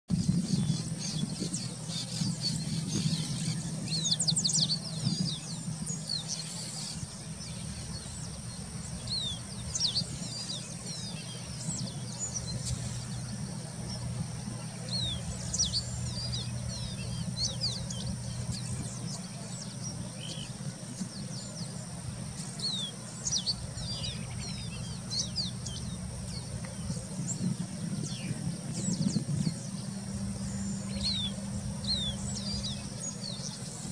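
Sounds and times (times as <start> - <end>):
bird singing high chirps: 0.1 - 33.9
low hum: 0.1 - 33.9.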